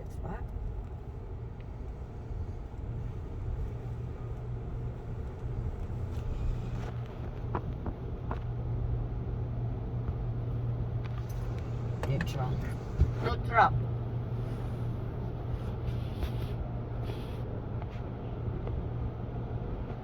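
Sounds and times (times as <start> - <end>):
car engine low hum from inside: 0.0 - 20.0.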